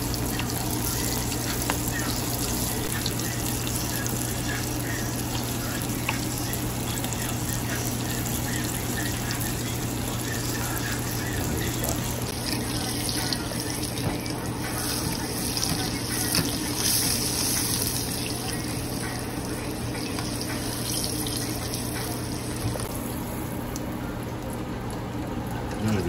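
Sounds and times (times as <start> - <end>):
oil sizzling and bubbling: 0.0 - 26.0
steady low hum: 0.0 - 26.0.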